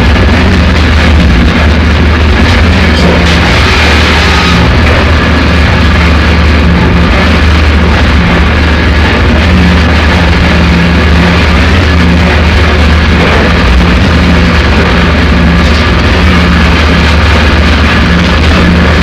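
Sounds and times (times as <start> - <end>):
buzzing tone: 0.0 - 19.0
distorted noise wall: 0.0 - 19.0
low hum: 0.0 - 19.0.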